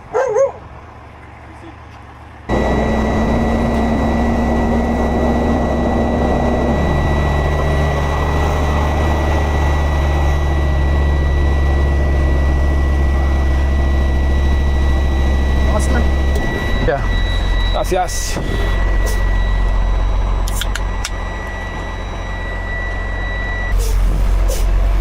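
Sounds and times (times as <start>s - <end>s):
diesel engine running: 0.0s - 25.0s
high steady whine: 2.5s - 25.0s.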